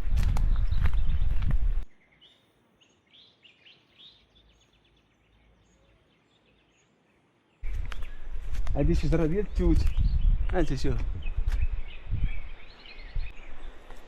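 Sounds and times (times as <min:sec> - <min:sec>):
small bird chirping: 0:00.3 - 0:14.0.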